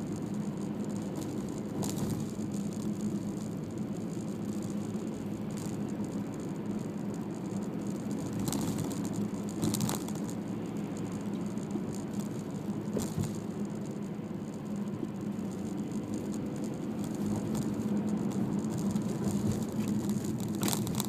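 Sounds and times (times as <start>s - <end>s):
car engine: 0.0s - 21.0s
road noise: 0.0s - 21.0s
short rattles or clicks: 0.1s - 21.0s.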